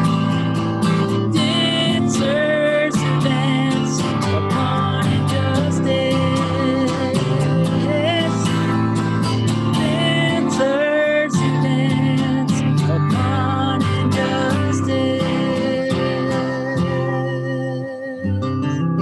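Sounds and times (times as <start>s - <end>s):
instrumental worship music: 0.0s - 18.2s.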